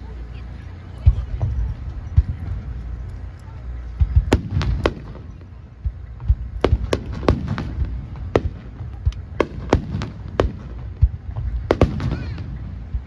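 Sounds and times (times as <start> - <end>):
fireworks bangs: 0.0 - 13.0
low rumble of fireworks bursts: 0.0 - 13.0.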